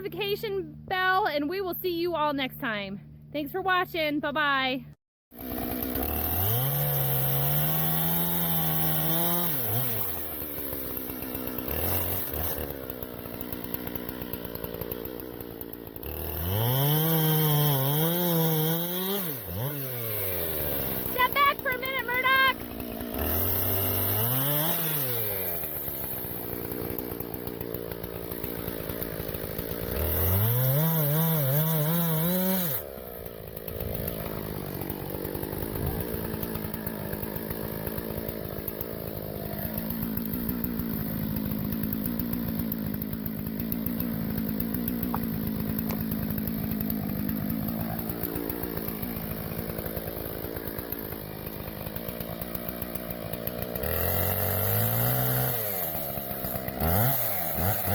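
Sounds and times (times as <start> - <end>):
chainsaw revving: 5.3 - 57.9.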